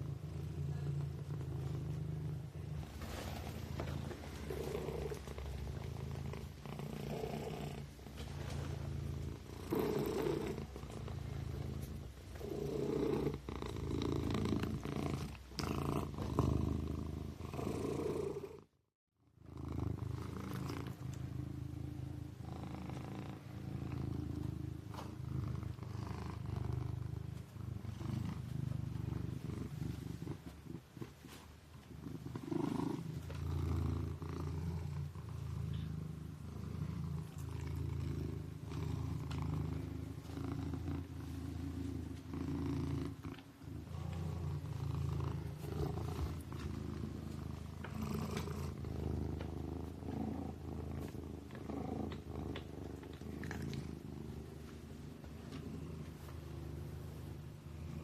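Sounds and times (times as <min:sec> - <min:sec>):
kitten purring: 0:00.0 - 0:18.8, 0:19.4 - 0:58.0.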